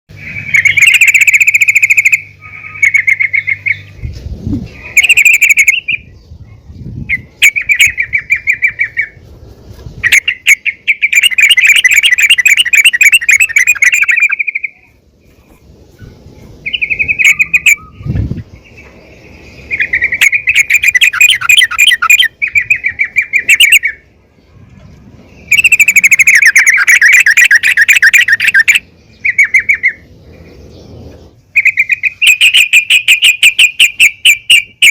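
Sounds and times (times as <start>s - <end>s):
bird chattering call: 0.1s - 4.0s, 4.6s - 6.2s, 7.1s - 9.2s, 10.0s - 24.1s, 25.3s - 34.9s.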